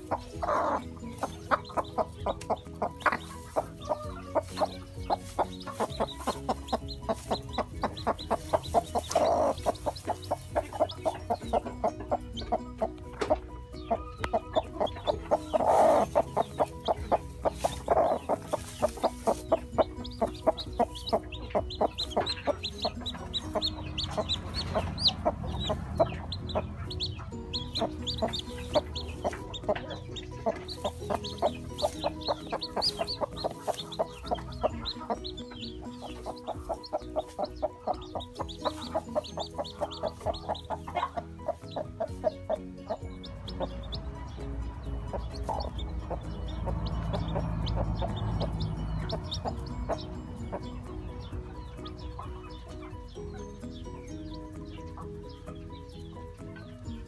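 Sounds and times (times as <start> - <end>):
chicks peeping: 0.0 - 57.0
hen clucking: 0.0 - 57.0.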